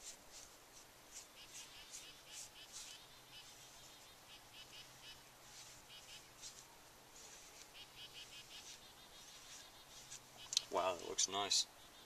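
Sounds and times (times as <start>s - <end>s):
faint high-pitched chirping: 1.1s - 6.6s, 7.2s - 12.0s.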